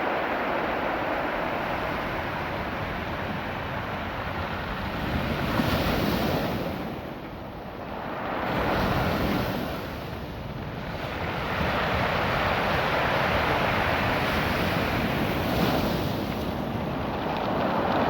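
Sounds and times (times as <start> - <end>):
surf washing over rocky beach: 0.0 - 18.0.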